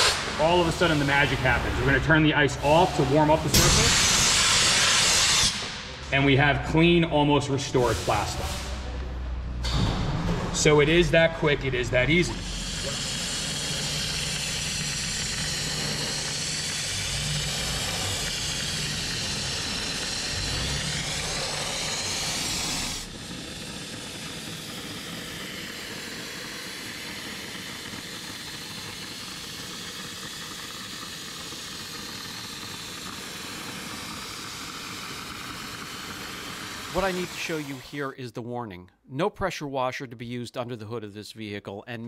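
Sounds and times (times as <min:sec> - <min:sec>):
dry ice blaster hissing: 0:00.0 - 0:09.0, 0:10.6 - 0:38.1.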